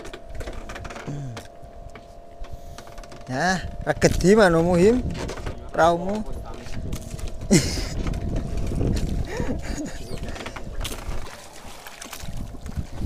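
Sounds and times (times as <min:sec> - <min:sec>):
low rumble: 0:00.0 - 0:11.3
faint steady hum: 0:00.0 - 0:13.0
water splashing against boat: 0:00.0 - 0:13.0.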